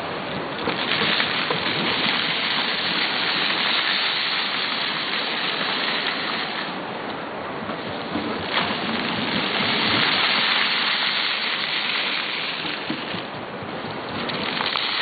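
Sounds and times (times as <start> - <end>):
fountain water jets splashing: 0.0 - 15.0.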